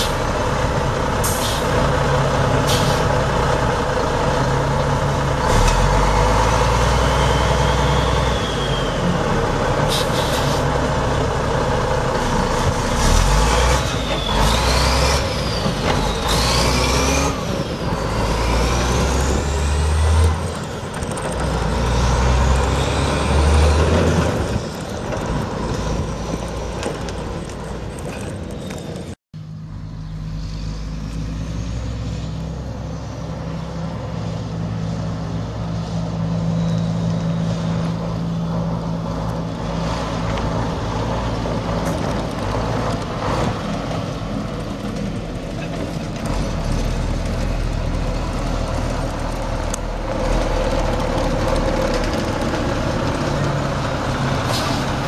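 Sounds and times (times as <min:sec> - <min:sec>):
diesel truck engine running: 0:00.0 - 0:30.9, 0:32.3 - 0:55.0.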